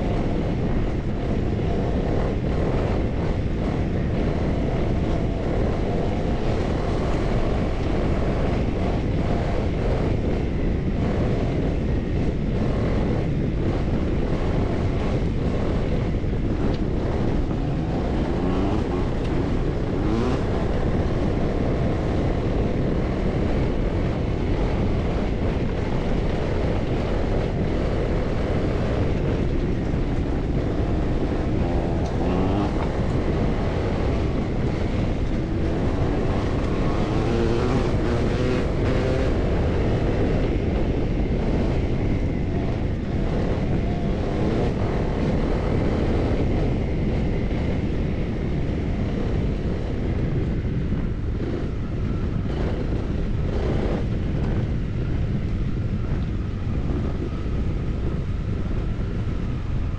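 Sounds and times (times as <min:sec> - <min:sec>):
motorcycle engine revving: 0:00.0 - 0:59.7
wind noise on microphone: 0:00.0 - 0:59.9.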